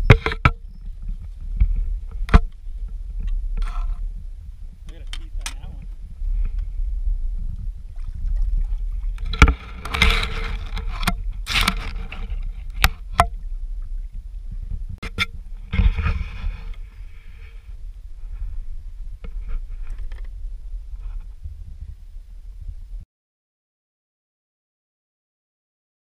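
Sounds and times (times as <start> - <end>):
low rumble: 0.0 - 23.0
rustling and splashing: 0.3 - 21.9.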